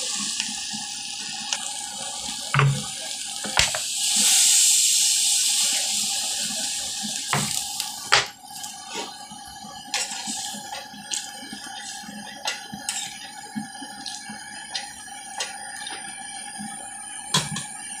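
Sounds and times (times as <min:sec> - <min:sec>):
curry simmering with pops: 0:00.0 - 0:18.0
water hissing in hot pan: 0:00.0 - 0:18.0.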